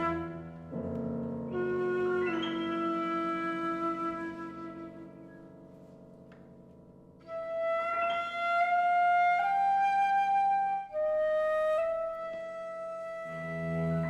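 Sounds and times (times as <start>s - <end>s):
flute melody: 0.0s - 6.2s, 7.2s - 14.0s
soft low accompaniment: 0.0s - 14.0s.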